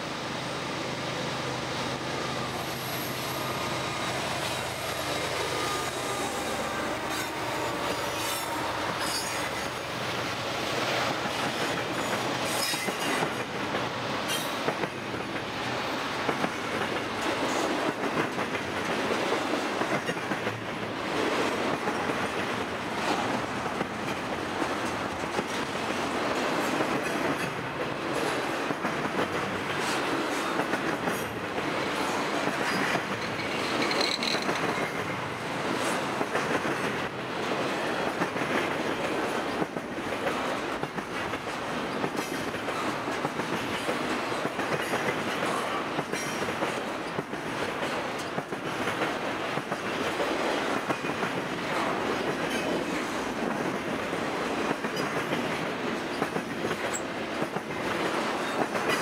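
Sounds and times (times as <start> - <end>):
diesel locomotive passing: 0.0 - 59.0
train wheels rumbling: 0.0 - 59.0.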